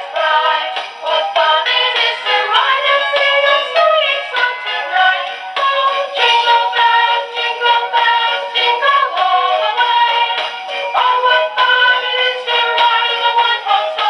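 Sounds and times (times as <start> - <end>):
synthesized singing from small speaker: 0.0 - 14.0.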